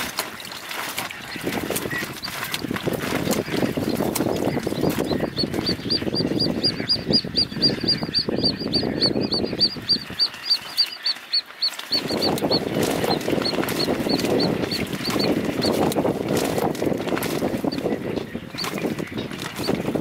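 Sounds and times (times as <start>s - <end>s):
bird chick peeping: 0.0s - 20.0s.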